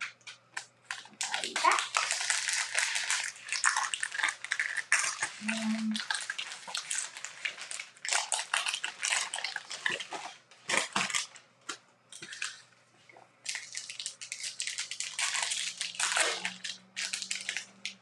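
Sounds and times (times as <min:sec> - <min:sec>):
wrapper crinkling and tearing: 0:00.9 - 0:11.4, 0:13.4 - 0:18.0.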